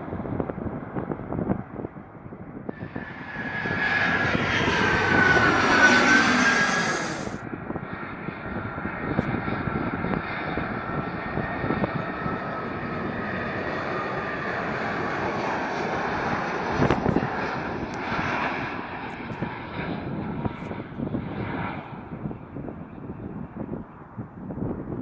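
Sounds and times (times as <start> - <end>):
approaching jet engine rumble: 0.0 - 25.0
jet engine whine overhead: 0.0 - 25.0.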